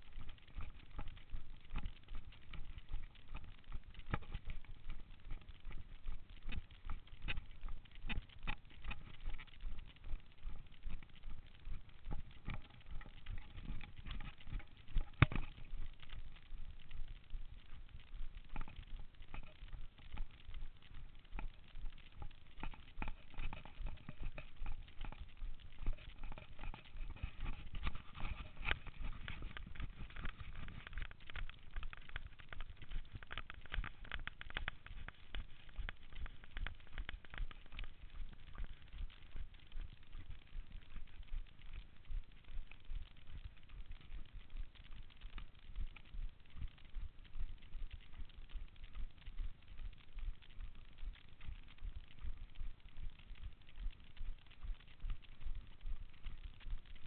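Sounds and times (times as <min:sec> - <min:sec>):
running footsteps on dirt trail: 0:00.0 - 0:57.0.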